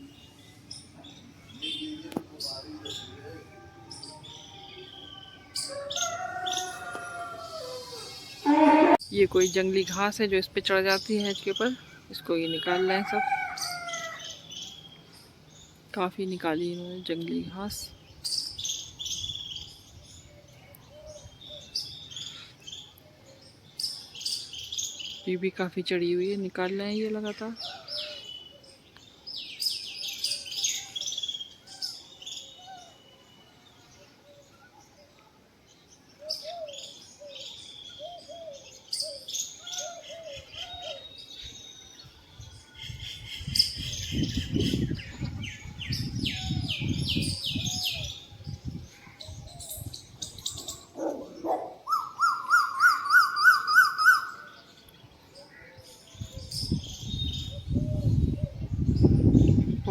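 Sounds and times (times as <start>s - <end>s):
birds singing and calling: 0.0s - 59.9s.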